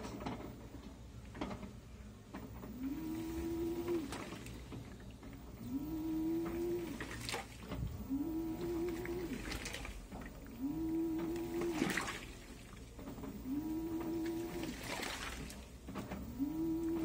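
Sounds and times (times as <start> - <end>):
washing machine motor humming: 0.0 - 17.0
water sloshing: 2.6 - 17.0.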